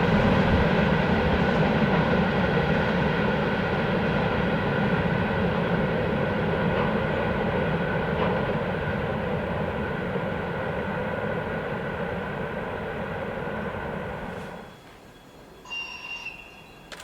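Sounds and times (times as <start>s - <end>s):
freight train rumbling past: 0.0s - 15.7s.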